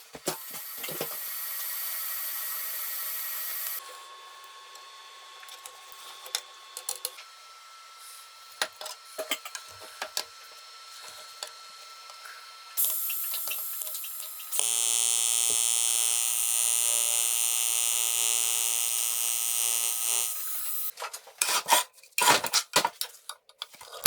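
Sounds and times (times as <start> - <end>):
power tool whining: 0.0 - 20.9.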